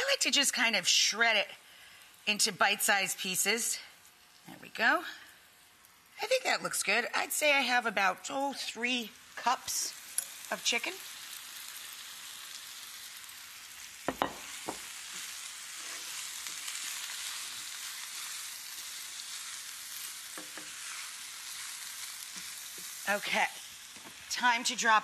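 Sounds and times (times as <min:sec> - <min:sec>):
chicken sizzling in a skillet: 0:00.0 - 0:25.0.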